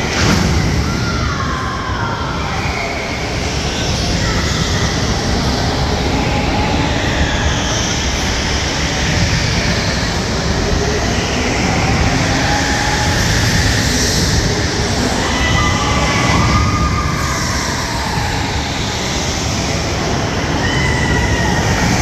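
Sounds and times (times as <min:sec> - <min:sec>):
go-kart engines and tyres: 0:00.0 - 0:22.0.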